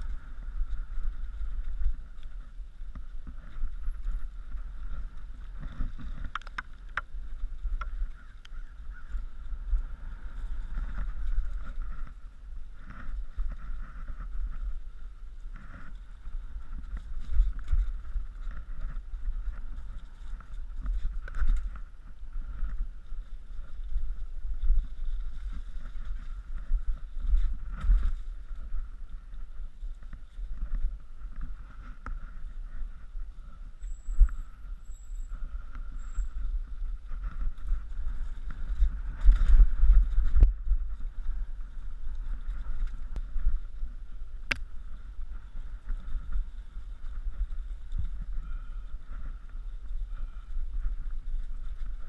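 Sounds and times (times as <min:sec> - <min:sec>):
faint steady whine: 0:00.0 - 0:52.0
wind buffeting microphone: 0:00.0 - 0:52.0.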